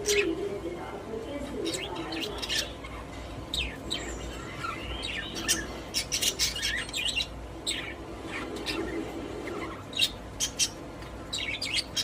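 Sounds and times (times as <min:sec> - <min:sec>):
budgies chirping and warbling: 0:00.0 - 0:00.6, 0:01.3 - 0:12.0.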